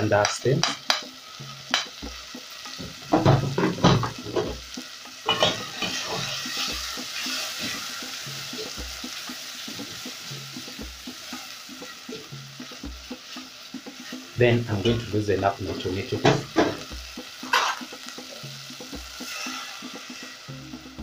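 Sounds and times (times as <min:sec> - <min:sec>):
food sizzling in pot: 0:00.0 - 0:21.0
spatula knocking against pot: 0:00.2 - 0:15.0, 0:16.2 - 0:20.1.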